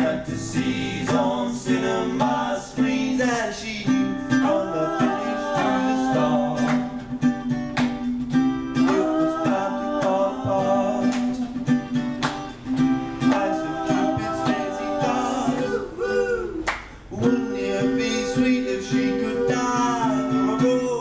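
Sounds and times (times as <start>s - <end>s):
person singing: 0.0s - 7.2s, 8.7s - 11.7s, 13.2s - 21.0s
acoustic guitar strumming: 0.0s - 21.0s.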